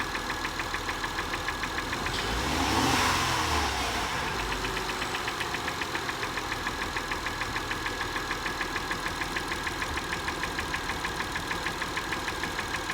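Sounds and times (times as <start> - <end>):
car engine idling with knocking: 0.0 - 12.9.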